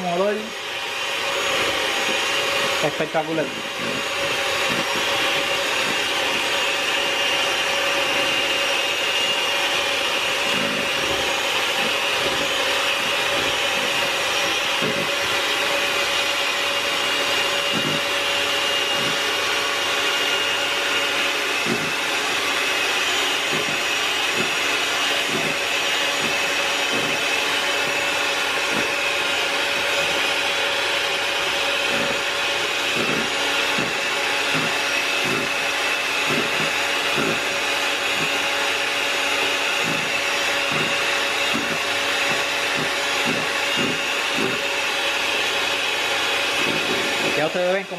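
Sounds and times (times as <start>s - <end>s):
electric hand mixer whine: 0.0s - 47.9s.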